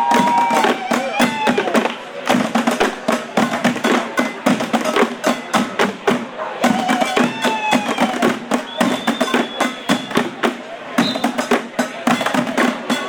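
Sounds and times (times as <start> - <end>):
drumming on buckets and cans: 0.0 - 13.0
voices calling out: 0.0 - 13.0.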